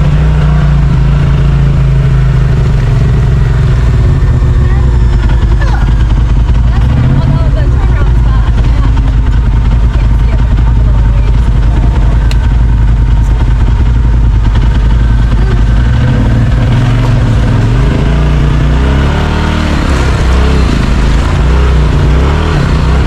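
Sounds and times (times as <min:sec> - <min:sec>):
utv engine revving under load: 0:00.0 - 0:23.0.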